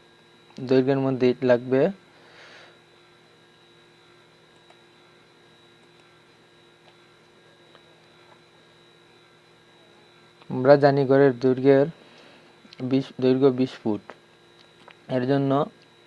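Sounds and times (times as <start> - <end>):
faint electrical hum with whine: 0.0 - 16.0.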